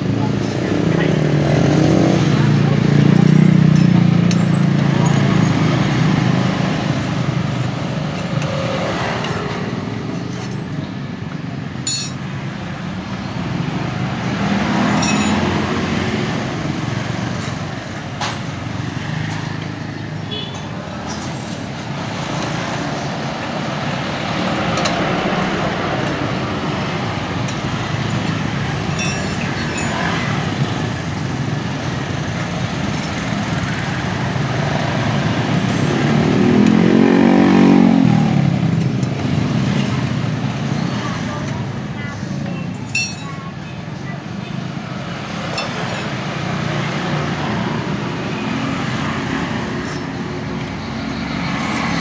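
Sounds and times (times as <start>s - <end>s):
motorbike passing: 0.0s - 10.2s, 12.4s - 21.0s, 22.1s - 42.4s, 44.6s - 52.0s
street traffic: 0.0s - 52.0s.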